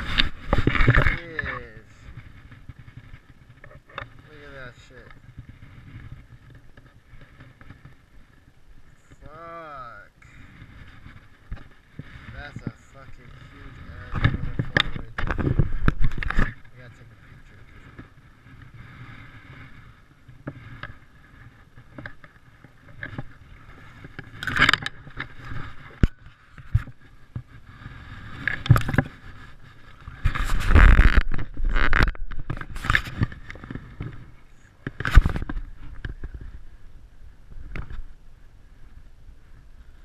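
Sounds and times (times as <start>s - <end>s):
grass rustling on microphone: 0.0s - 40.0s.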